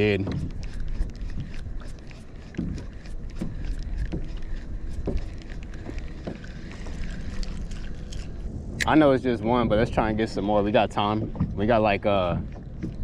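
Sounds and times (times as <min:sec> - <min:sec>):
water slapping hull: 0:00.0 - 0:13.0
wind rumbling on microphone: 0:00.0 - 0:13.0.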